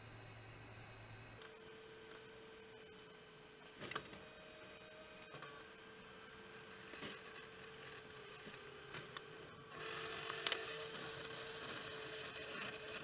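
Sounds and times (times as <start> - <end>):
printer high whine: 0.0 - 13.0
printer whirring: 1.4 - 13.0.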